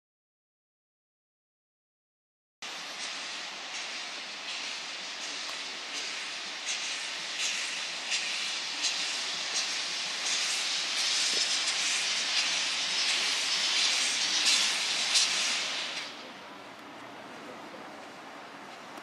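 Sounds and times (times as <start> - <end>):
steam locomotive hissing: 2.6 - 19.0.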